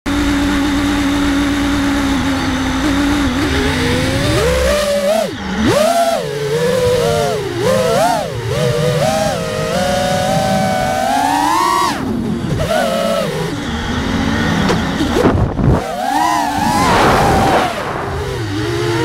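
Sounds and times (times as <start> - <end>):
drone motors whining: 0.1 - 19.0.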